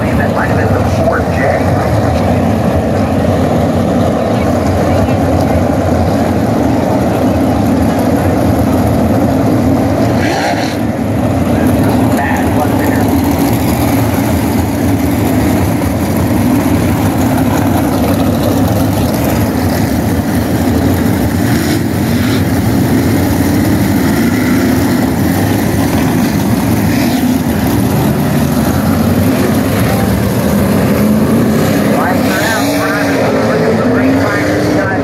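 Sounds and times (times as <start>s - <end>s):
race car engines droning: 0.0s - 35.0s.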